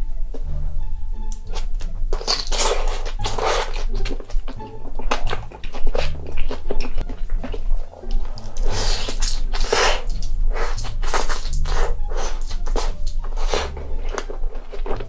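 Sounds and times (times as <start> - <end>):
background music bass line: 0.0 - 15.0
wet chewing and mouth smacking: 1.3 - 15.0.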